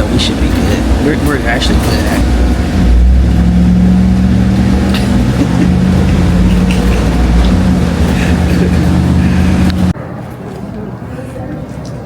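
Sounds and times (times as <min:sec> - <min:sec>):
vehicle interior drone: 0:00.0 - 0:10.0.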